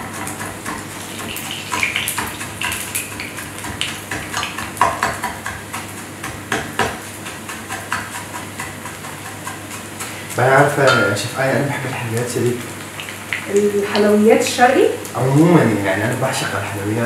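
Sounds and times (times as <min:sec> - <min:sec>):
spoon stirring in mixing bowl: 0:00.0 - 0:14.1.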